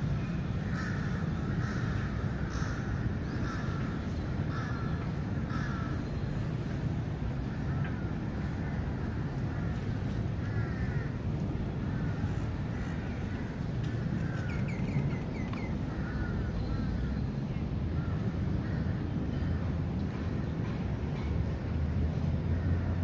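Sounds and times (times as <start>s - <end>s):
steady low rumble: 0.0s - 23.0s
birds calling: 0.1s - 19.5s.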